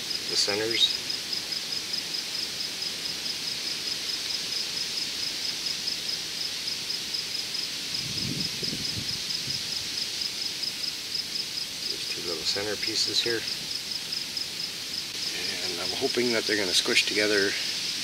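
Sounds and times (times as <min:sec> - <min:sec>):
cricket chirping: 0:00.0 - 0:18.0
outdoor background hiss: 0:00.0 - 0:18.0.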